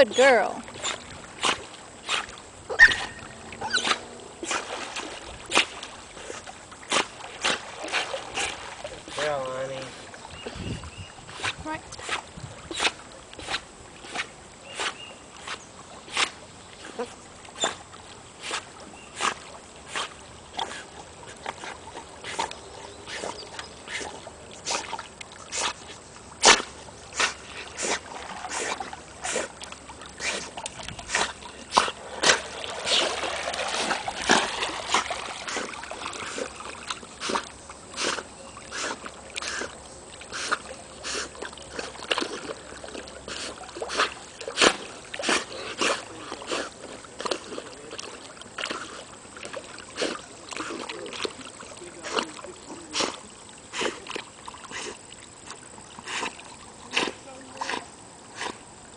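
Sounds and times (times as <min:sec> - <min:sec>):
rushing churning water: 0:00.0 - 0:58.8
water splashing around canoe: 0:00.0 - 0:58.9
paddle splashes: 0:00.1 - 0:58.9.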